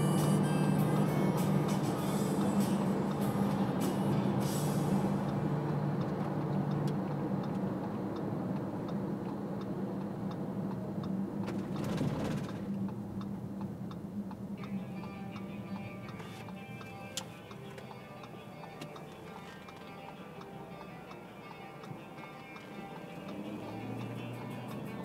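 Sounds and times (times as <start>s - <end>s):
car engine and road drone: 0.0s - 25.0s
turn signal ticking: 0.0s - 25.0s.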